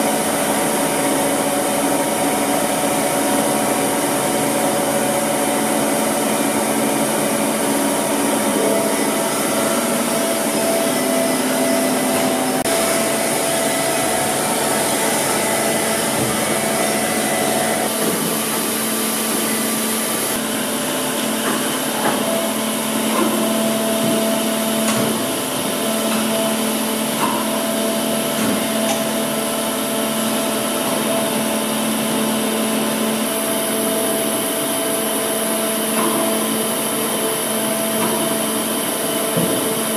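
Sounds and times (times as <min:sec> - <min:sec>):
milling machine whirring: 0:00.0 - 0:39.9.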